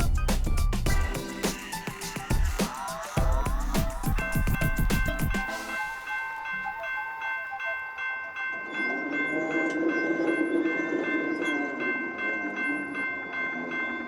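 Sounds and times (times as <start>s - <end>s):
crossing bell ringing: 0.9s - 14.0s.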